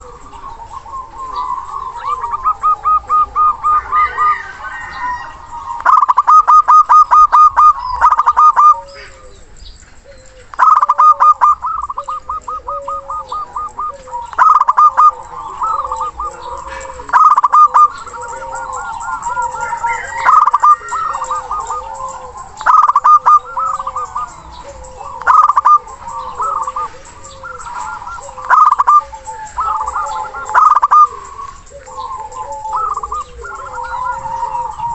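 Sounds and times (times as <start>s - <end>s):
doves cooing: 0.0s - 34.9s
doves staccato calls: 0.0s - 34.9s.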